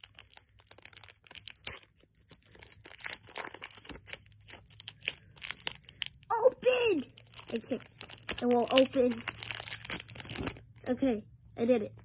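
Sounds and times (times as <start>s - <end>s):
foil wrapper crinkling: 0.0s - 6.3s, 7.0s - 10.8s.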